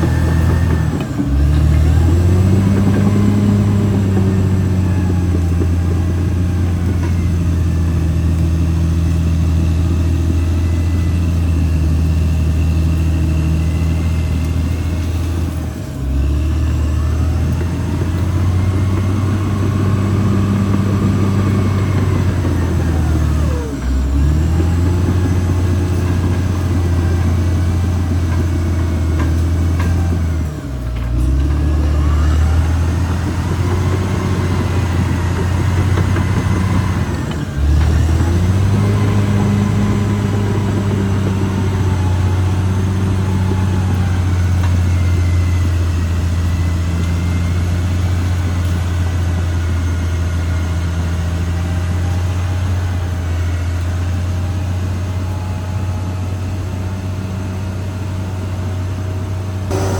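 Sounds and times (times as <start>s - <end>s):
bulldozer diesel engine drone: 0.0s - 59.9s.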